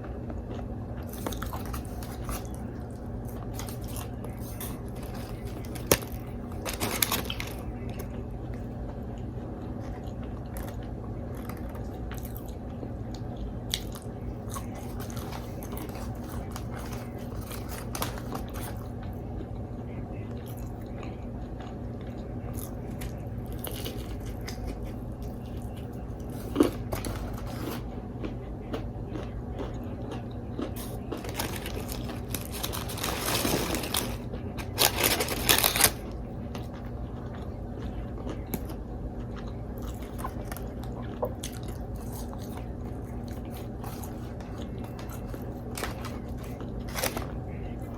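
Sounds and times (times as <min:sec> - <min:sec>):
steady low hum: 0:00.0 - 0:47.9
chewing and biting: 0:00.3 - 0:19.6, 0:20.3 - 0:47.9.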